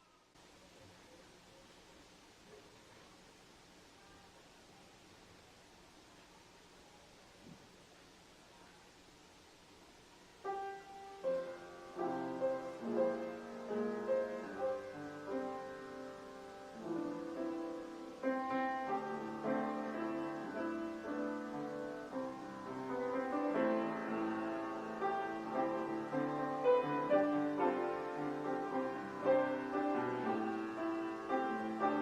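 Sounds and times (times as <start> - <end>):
slow gentle piano piece: 2.4 - 32.0.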